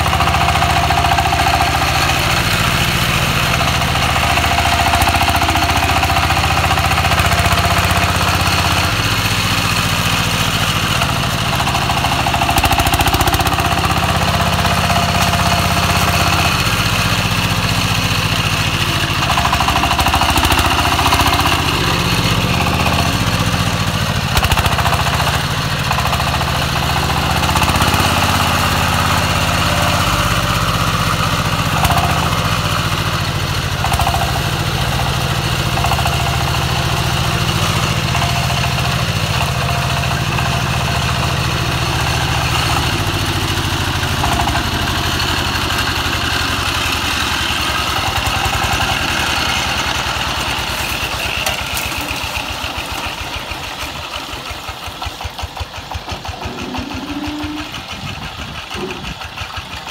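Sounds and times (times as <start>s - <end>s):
diesel tractor engine chugging: 0.0s - 59.9s.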